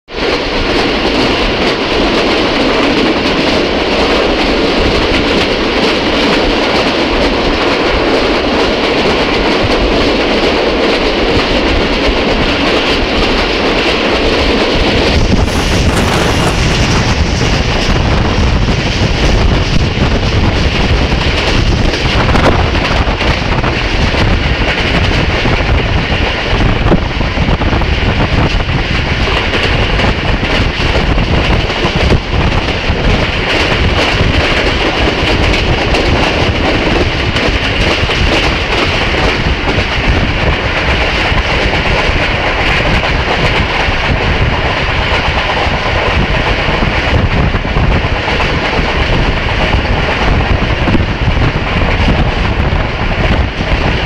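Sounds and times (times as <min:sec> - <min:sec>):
train wheels rumbling on rails: 0:00.1 - 0:54.0.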